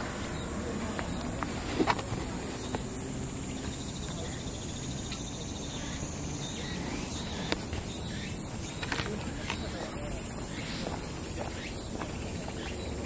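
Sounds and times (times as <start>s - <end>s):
insects trilling: 0.0s - 13.0s
rapidly pulsing insect call: 0.0s - 13.0s.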